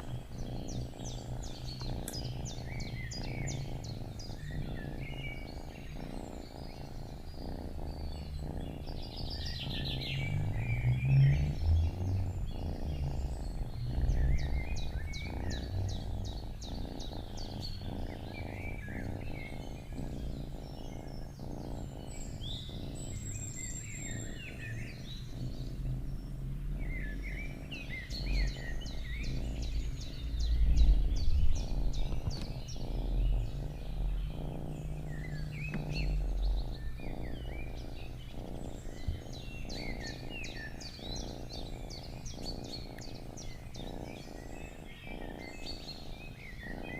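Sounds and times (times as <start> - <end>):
cat purring: 0.0 - 46.9
songbirds chirping and trilling: 0.0 - 46.9.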